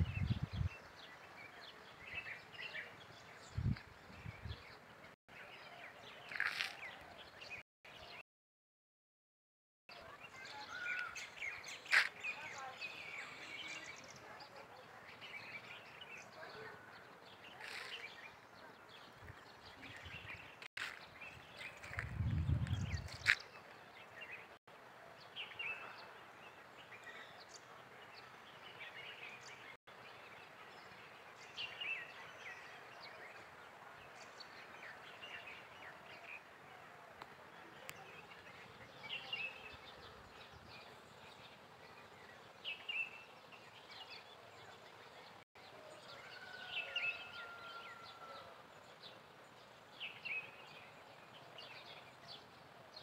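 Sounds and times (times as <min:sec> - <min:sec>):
birds chirping: 0:00.0 - 0:08.2, 0:09.9 - 0:53.0.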